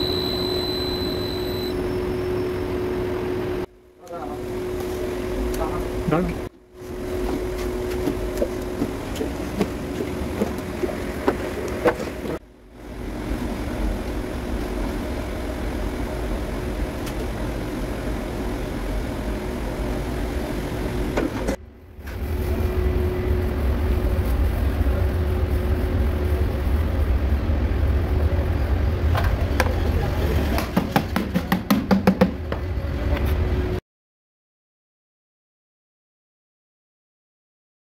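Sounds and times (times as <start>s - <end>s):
machinery humming: 0.0s - 30.7s.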